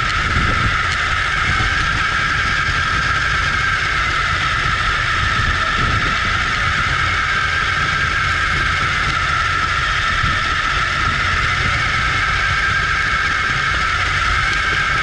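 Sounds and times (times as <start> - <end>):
electric motor whining: 0.0 - 15.0
tyres rolling on asphalt: 0.0 - 15.0.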